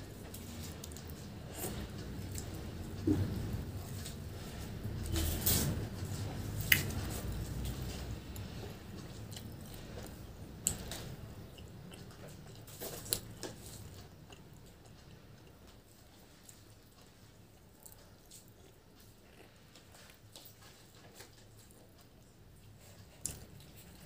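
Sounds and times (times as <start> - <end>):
person chewing wetly: 0.0 - 5.0, 6.0 - 24.0.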